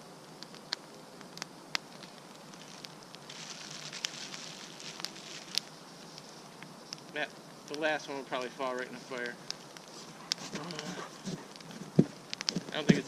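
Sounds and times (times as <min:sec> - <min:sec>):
campfire crackling: 0:00.0 - 0:13.0
fire hissing: 0:00.0 - 0:13.0
sharp pops: 0:00.3 - 0:13.0.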